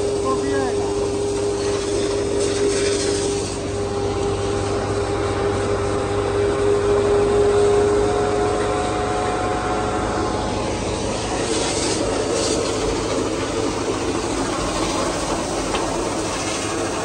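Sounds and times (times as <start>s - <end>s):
vacuum truck engine droning: 0.0s - 17.0s.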